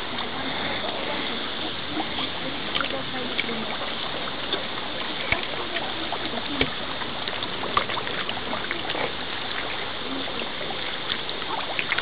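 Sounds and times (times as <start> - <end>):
fish splashing and slurping: 0.0 - 12.0.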